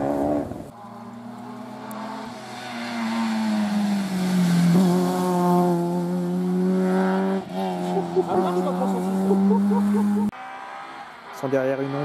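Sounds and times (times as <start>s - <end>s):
rally car engine approaching: 0.0s - 12.0s.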